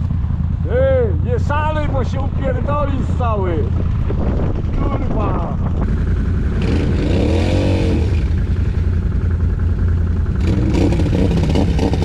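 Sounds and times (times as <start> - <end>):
quad engine revving: 0.0 - 9.4, 10.2 - 12.0.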